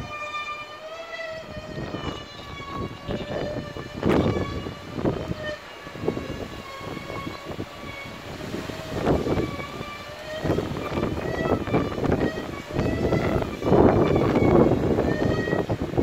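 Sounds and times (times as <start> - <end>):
kite hummer buzzing: 0.0 - 16.0
wind buffeting the microphone: 0.0 - 16.0.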